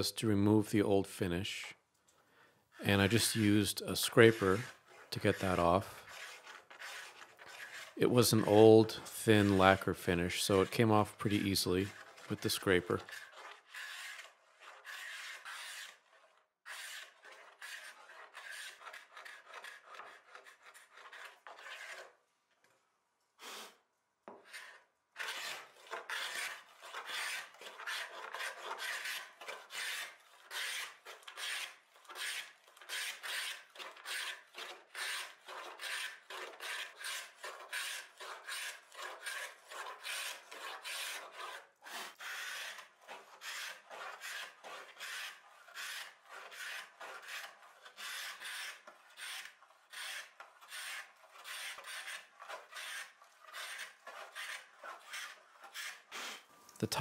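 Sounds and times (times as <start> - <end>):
scraper scraping wood: 2.7 - 22.2, 23.4 - 57.0.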